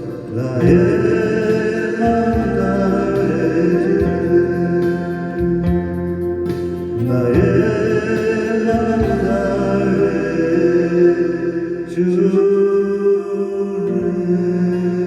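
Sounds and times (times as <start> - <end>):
acoustic guitar: 0.0 - 15.0
person singing: 0.0 - 15.0.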